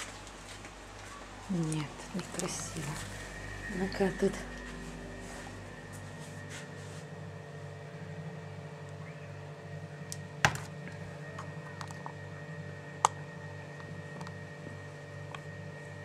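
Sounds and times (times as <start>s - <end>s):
pulsing mechanical hum: 0.0s - 16.0s.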